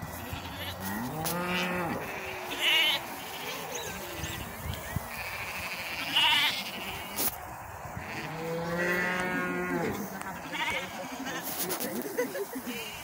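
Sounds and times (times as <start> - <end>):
sheep bleating: 0.1 - 7.2, 8.0 - 11.5.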